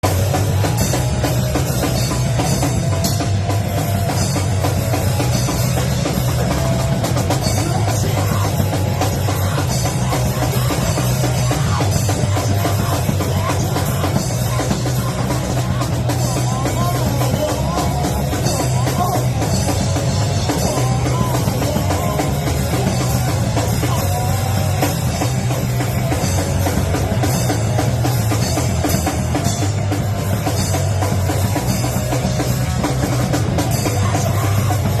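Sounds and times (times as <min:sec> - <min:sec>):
band playing rock music: 0:00.0 - 0:35.0
drum kit: 0:00.0 - 0:35.0.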